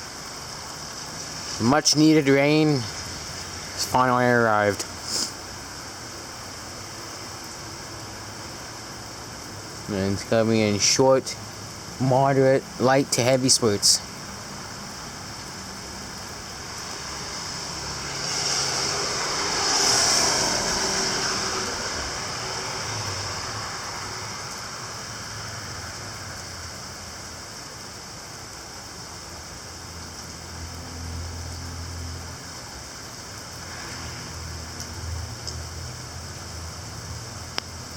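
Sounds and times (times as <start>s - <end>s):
heavy rain falling: 0.0s - 37.9s
vehicle tyres on wet road: 0.0s - 37.9s.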